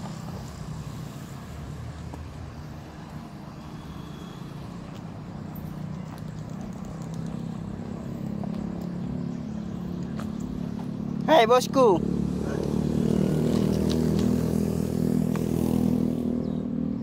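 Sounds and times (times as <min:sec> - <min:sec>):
wheels rumbling on asphalt: 0:00.0 - 0:17.0.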